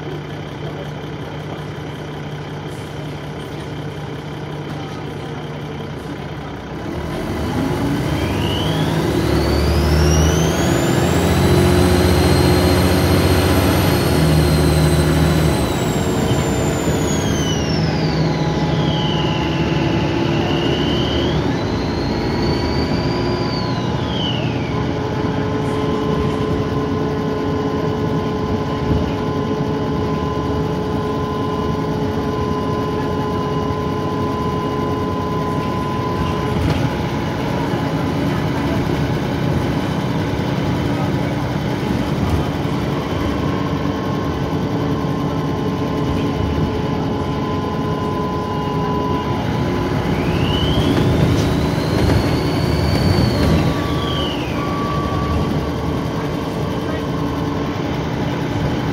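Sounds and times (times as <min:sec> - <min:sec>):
bus diesel engine droning: 0:00.0 - 0:58.9
turbo whine: 0:00.0 - 0:58.9.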